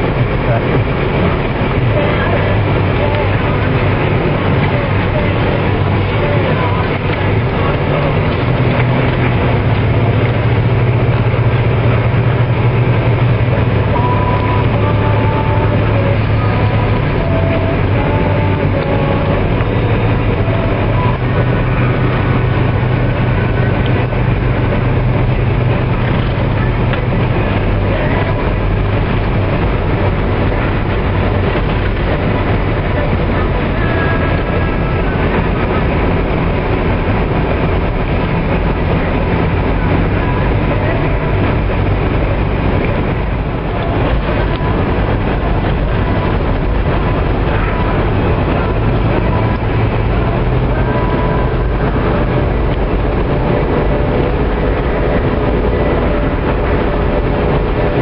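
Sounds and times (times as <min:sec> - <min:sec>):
tyre and road noise: 0:00.0 - 0:58.0
vehicle engine drone: 0:00.0 - 0:58.0.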